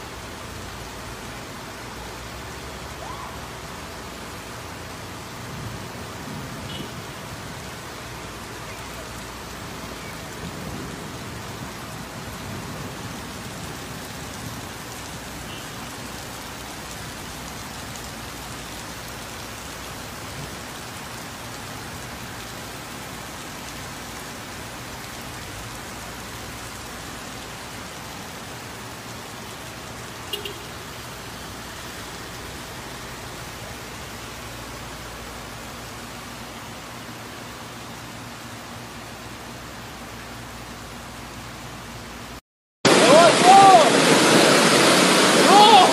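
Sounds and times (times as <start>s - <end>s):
heavy rain on street: 0.0s - 45.9s.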